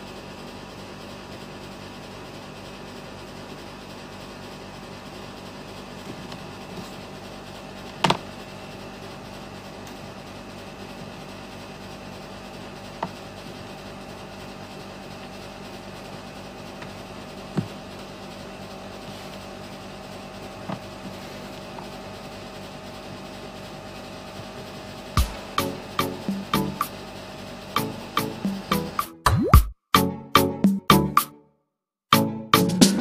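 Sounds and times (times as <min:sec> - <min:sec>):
steady background hum: 0:00.0 - 0:29.2.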